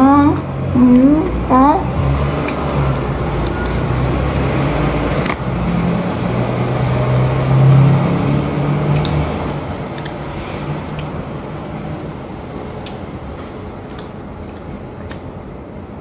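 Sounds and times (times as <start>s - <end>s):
vehicle engine hum: 0.0s - 13.9s.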